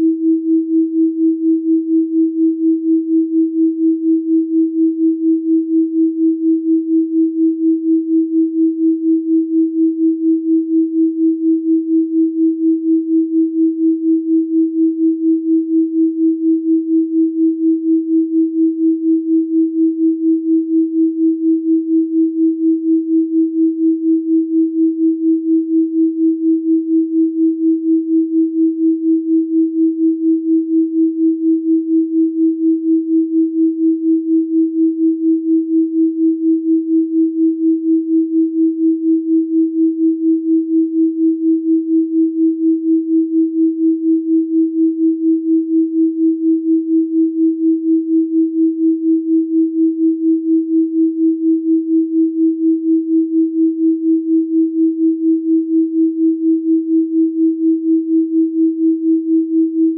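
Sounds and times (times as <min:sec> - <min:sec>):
throbbing sine tone: 0:00.0 - 0:59.9.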